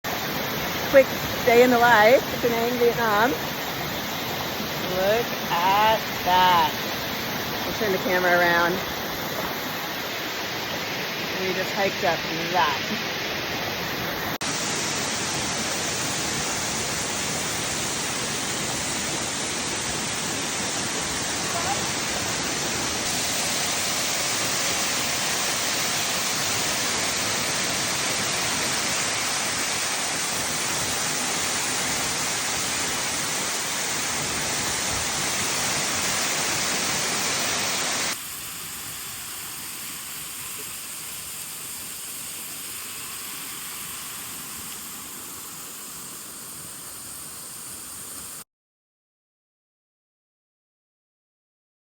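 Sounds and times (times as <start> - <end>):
thin rush of water: 0.0 - 48.4
waterfall roaring: 0.0 - 48.4.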